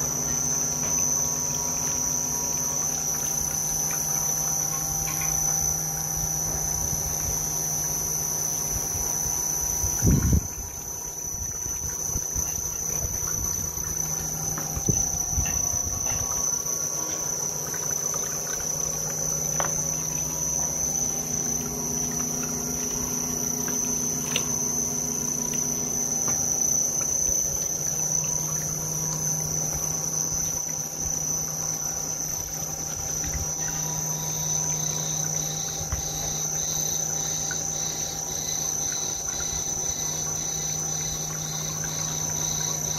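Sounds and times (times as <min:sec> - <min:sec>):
high-pitched whine: 0:00.0 - 0:42.9.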